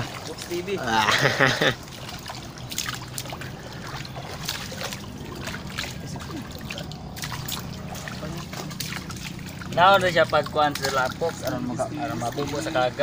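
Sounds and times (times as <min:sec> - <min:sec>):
pond water trickling and splashing: 0:00.0 - 0:13.0.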